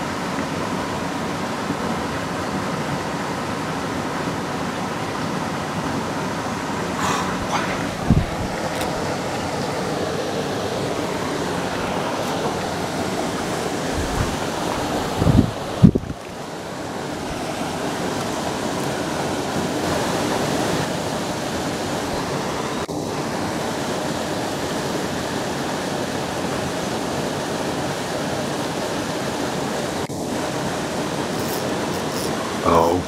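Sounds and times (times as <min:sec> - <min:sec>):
water rushing through spillway: 0:00.0 - 0:33.0.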